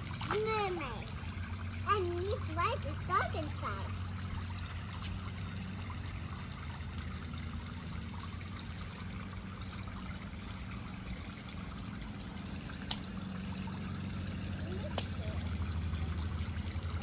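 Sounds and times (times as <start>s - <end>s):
low steady hum: 0.0s - 17.0s
water spraying into pool: 0.0s - 17.0s.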